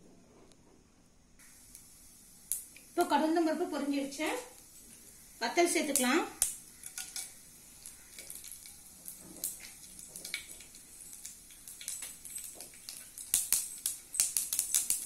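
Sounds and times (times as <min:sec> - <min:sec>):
hot oil crackling and popping: 0:01.4 - 0:15.0.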